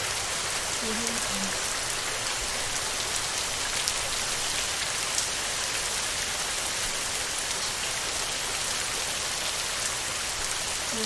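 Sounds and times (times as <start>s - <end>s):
heavy rain on a tin roof: 0.0s - 11.0s.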